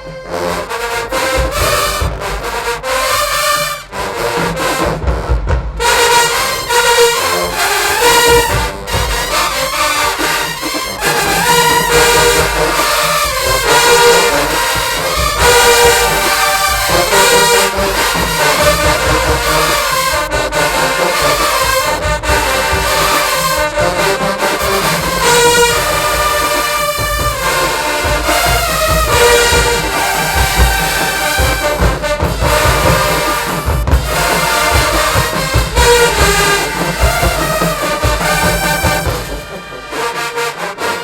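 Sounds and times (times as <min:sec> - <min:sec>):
marching band playing: 0:00.0 - 0:41.0
trombones and trumpets: 0:00.0 - 0:41.0.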